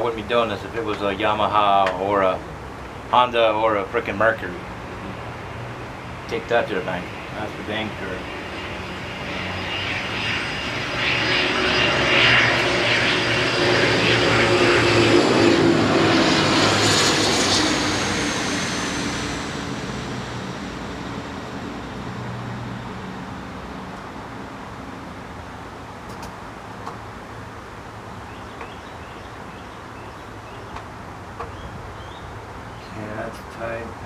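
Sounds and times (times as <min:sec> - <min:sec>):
aircraft passing overhead: 0:00.0 - 0:34.0.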